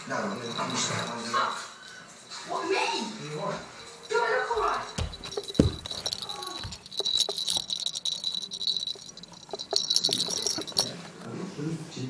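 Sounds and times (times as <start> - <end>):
jingle bell rattling: 0.0 - 11.3.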